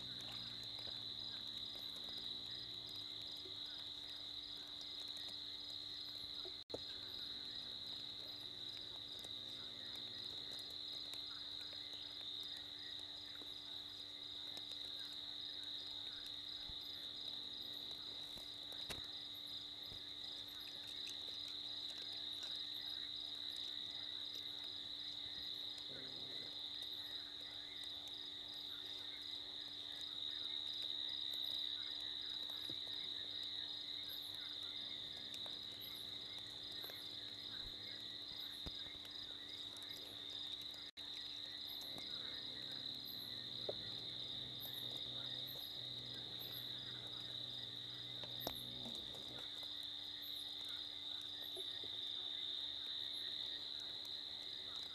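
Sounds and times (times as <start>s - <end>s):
crickets trilling: 0.0s - 54.9s
faint low hum: 0.0s - 54.9s.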